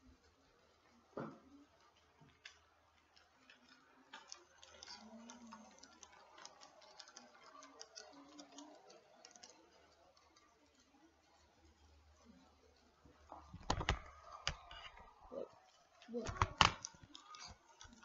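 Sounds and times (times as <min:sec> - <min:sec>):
model train wheels clicking: 0:01.6 - 0:15.0, 0:15.6 - 0:18.0.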